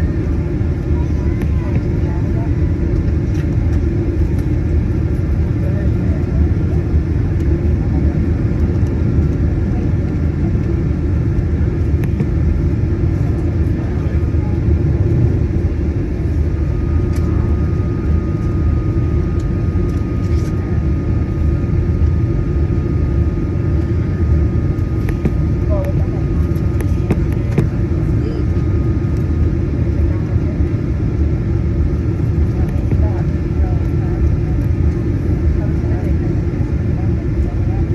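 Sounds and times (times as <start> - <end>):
aircraft cabin rumble: 0.0 - 37.9.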